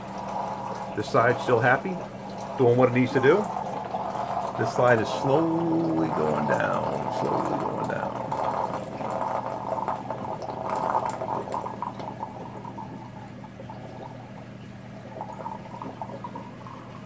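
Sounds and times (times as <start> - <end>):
overflow drain water gurgling: 0.0 - 17.0.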